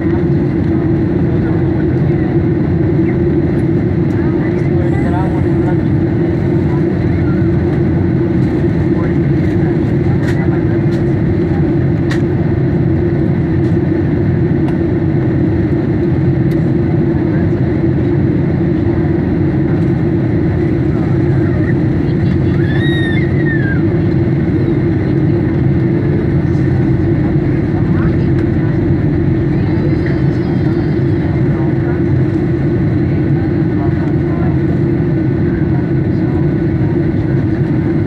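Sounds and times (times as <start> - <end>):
jet engine roar in cabin: 0.0 - 38.0.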